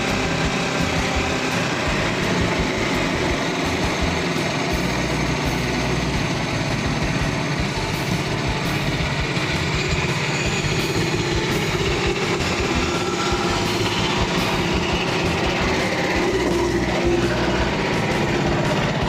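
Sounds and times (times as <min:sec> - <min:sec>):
band sawmill sawing through log: 0:00.0 - 0:19.0.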